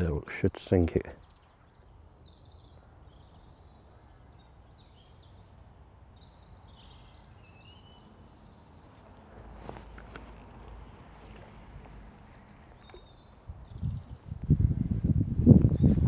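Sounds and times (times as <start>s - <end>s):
outdoor hush: 0.0s - 16.0s
small birds chirping and warbling: 0.0s - 16.0s.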